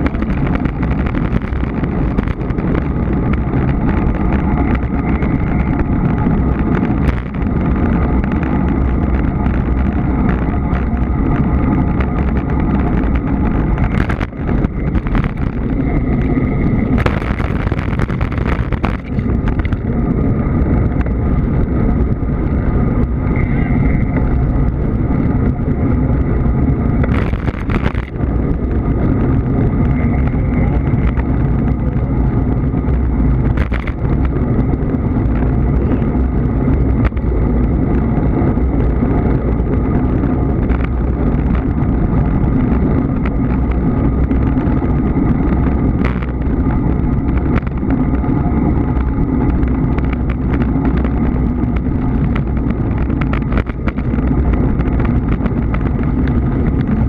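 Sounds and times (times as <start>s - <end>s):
road rumble: 0.0s - 57.0s
wind on microphone: 0.0s - 57.0s.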